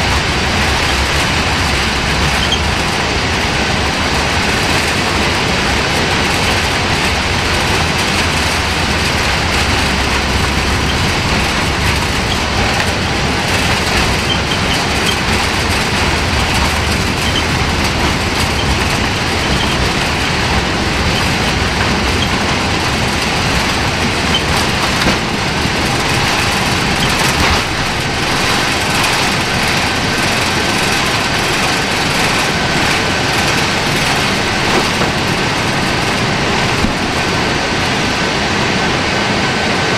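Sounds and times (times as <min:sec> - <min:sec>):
jet engines roaring: 0:00.0 - 0:39.9
runway rumble: 0:00.0 - 0:39.9.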